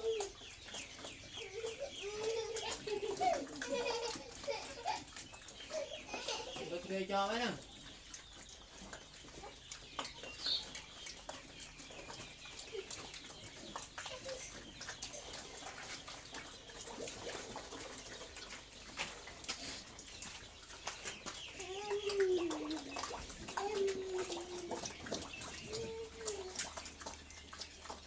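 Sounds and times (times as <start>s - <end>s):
chicken clucks: 0.0s - 28.0s
pigs chewing and smacking: 0.0s - 28.0s.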